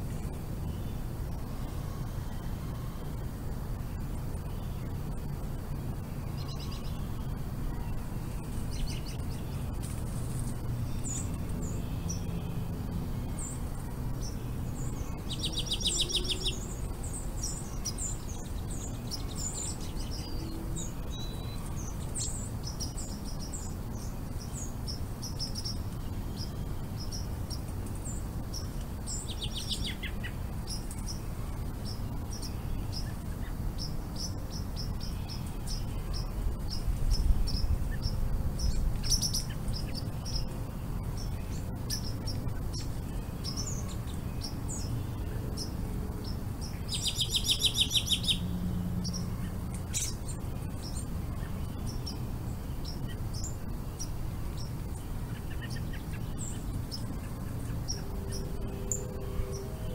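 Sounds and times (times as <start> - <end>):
songbirds chirping: 0.0 - 59.9
bird trill: 4.0 - 59.9.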